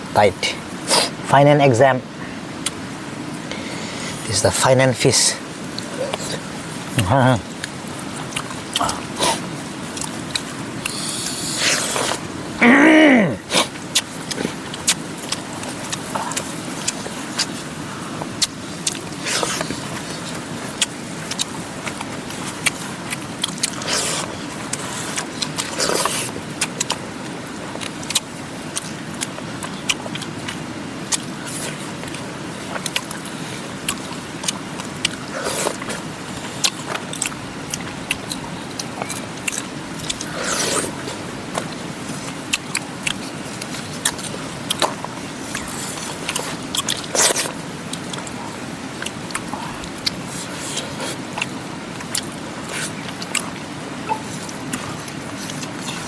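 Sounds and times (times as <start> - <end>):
mountain river rushing: 0.0 - 56.0.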